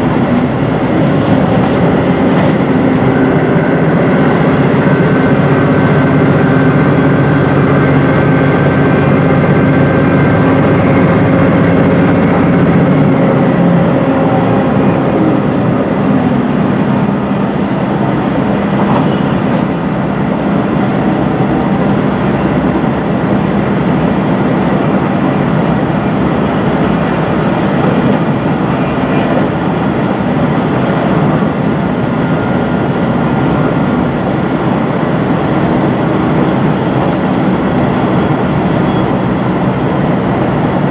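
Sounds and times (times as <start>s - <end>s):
droning hum: 0.0s - 40.9s
train rumble: 0.0s - 40.9s.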